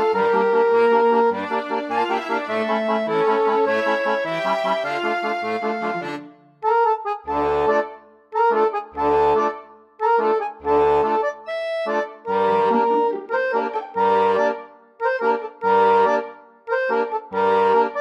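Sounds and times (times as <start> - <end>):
accordion chords: 0.0 - 18.0.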